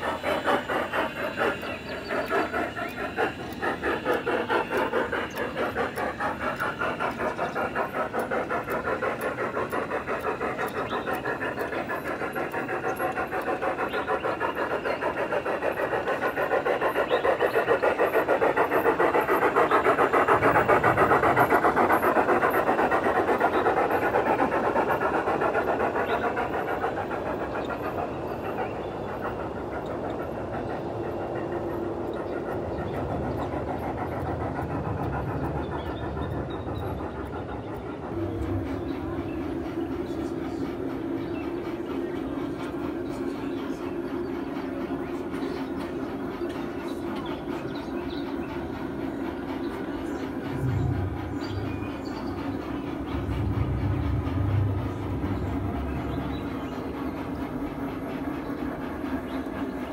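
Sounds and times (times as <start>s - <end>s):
model steam locomotive chuffing: 0.0s - 59.9s.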